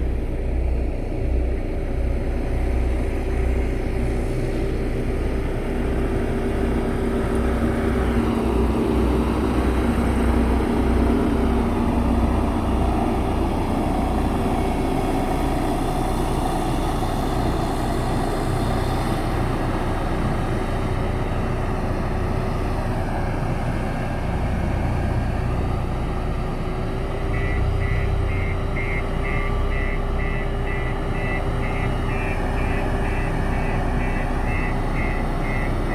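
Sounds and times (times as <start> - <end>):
diesel engine droning: 0.0 - 35.9.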